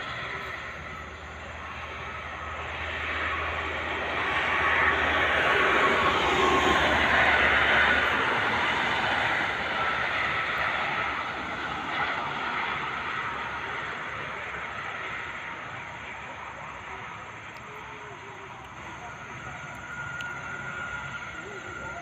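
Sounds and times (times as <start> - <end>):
motorway traffic rushing: 0.0 - 22.0.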